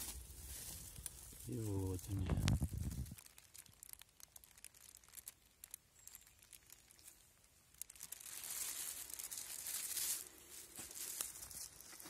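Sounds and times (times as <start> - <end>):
rustling of leaf litter: 0.0 - 12.0.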